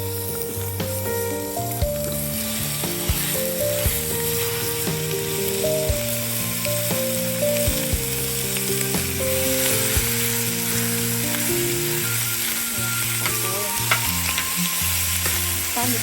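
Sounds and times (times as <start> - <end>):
background music with held notes: 0.0 - 16.0
food sizzling in a pan: 0.0 - 16.0.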